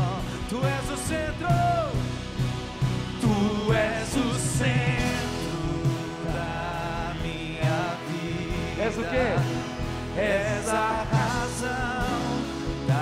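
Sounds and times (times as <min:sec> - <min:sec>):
person singing: 0:00.0 - 0:02.0, 0:03.2 - 0:13.0
band playing worship song: 0:00.0 - 0:13.0.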